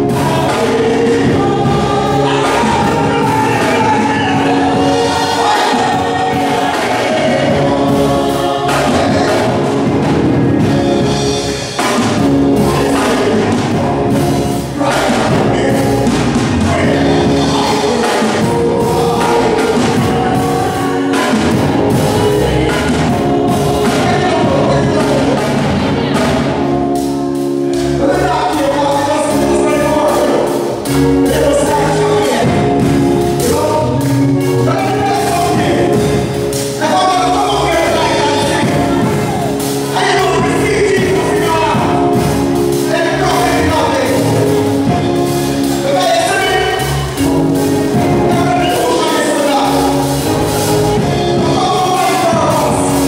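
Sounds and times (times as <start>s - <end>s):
man singing into microphone: 0.0s - 10.1s, 11.8s - 26.5s, 27.8s - 47.2s, 47.9s - 53.0s
instrumental backing with percussion: 0.0s - 53.0s.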